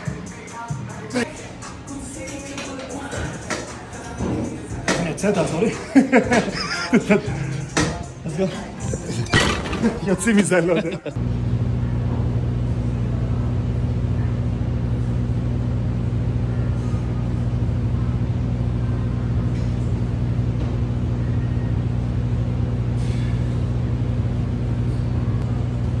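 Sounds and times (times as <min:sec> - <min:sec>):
steady low droning hum: 0:03.2 - 0:26.0.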